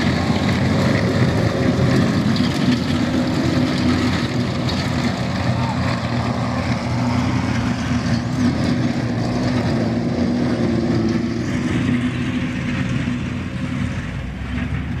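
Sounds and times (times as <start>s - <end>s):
armoured vehicle engine drone: 0.0s - 15.0s.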